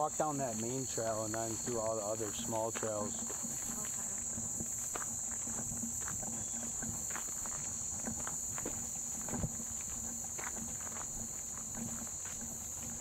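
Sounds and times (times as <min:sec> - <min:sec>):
footsteps on trail: 0:00.0 - 0:13.0
high-pitched insect chorus: 0:00.0 - 0:13.0.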